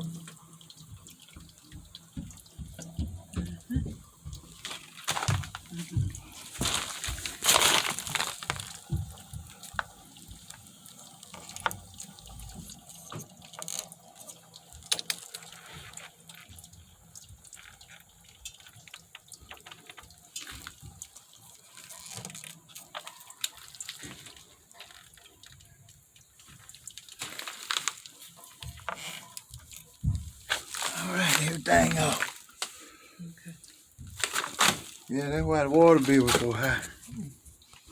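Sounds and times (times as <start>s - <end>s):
water dripping and trickling: 0.0s - 37.9s.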